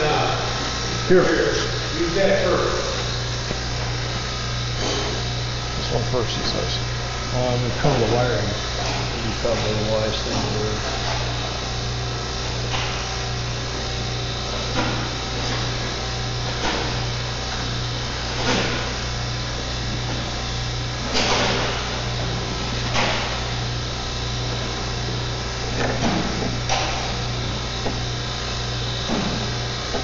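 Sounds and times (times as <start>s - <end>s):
electrical machine hum: 0.0s - 30.0s.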